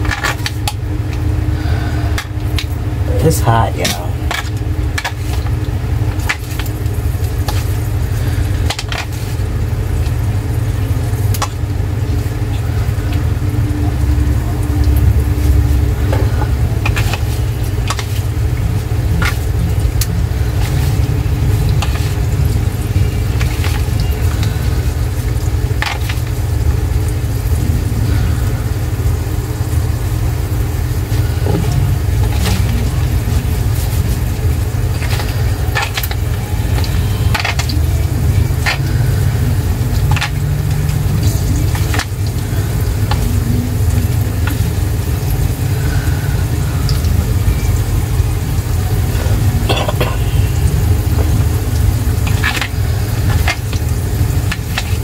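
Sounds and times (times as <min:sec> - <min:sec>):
low rumble: 0:00.0 - 0:54.7
food frying with sizzle and pops: 0:00.0 - 0:55.0.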